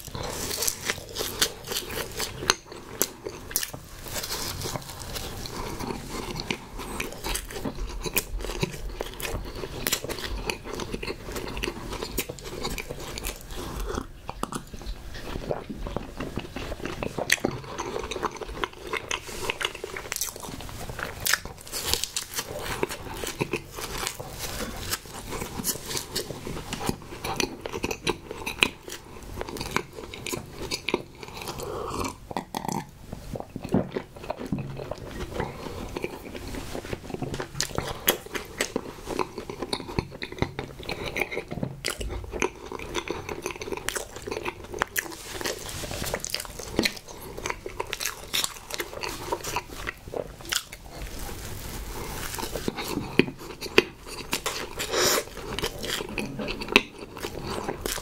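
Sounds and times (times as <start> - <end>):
person chewing soft cake: 0.0 - 58.0.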